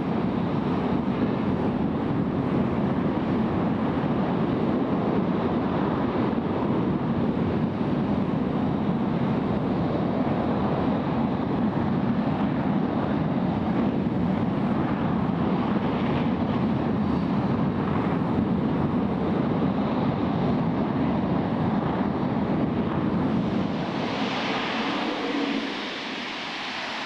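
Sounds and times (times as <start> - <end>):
rocket engine rumble and hiss: 0.0 - 27.0.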